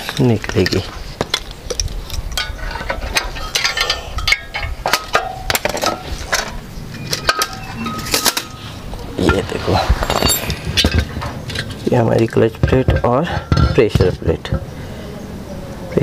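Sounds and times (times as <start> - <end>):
metal clinks and scrapes: 0.0 - 14.6.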